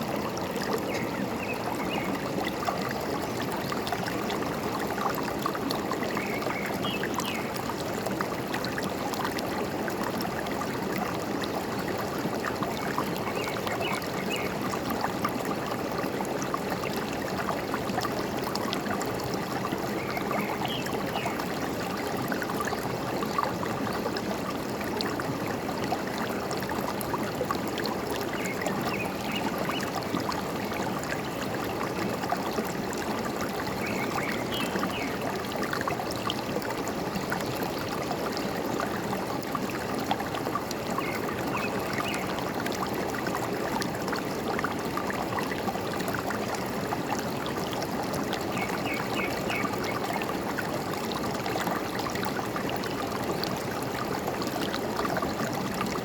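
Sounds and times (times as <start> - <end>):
forest stream flowing: 0.0 - 56.0.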